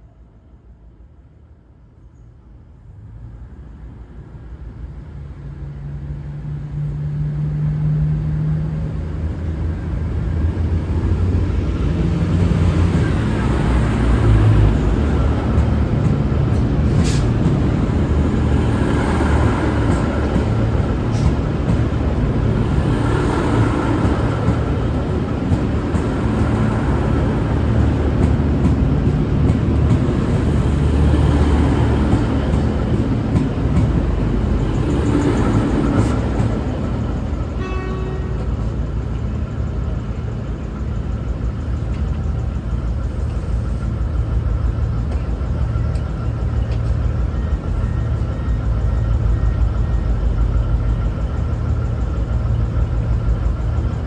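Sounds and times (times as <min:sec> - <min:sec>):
train wheel and rail noise: 0:00.0 - 0:54.0
diesel train engines running: 0:02.5 - 0:54.0.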